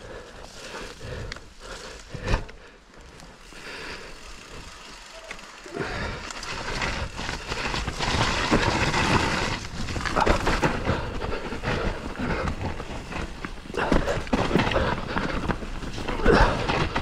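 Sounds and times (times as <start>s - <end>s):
bike tyres rolling on dirt: 0.0s - 17.0s.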